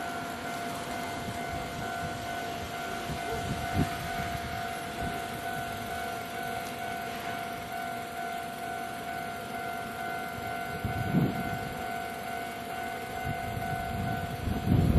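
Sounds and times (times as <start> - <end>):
level crossing alarm ringing: 0.0 - 14.9.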